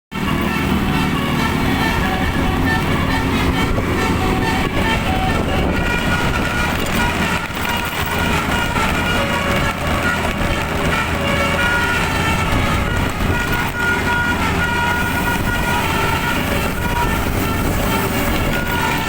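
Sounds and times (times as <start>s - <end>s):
bus air horn playing a tune: 0.1s - 19.0s
low rumble: 0.2s - 18.8s.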